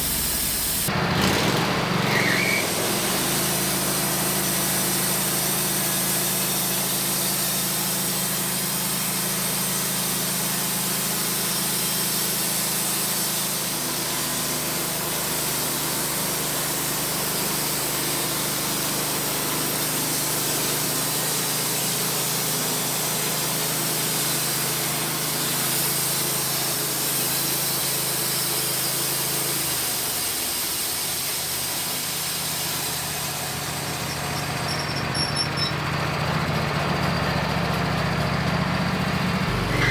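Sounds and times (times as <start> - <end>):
band sawmill cutting log: 0.0 - 36.2, 38.9 - 39.9.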